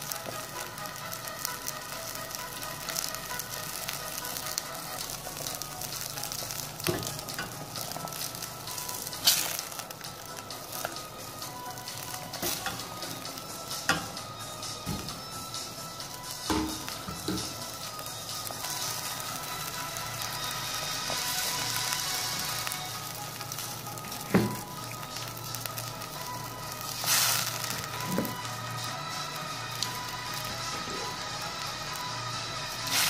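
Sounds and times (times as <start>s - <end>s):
water boiling and bubbling: 0.0s - 33.0s.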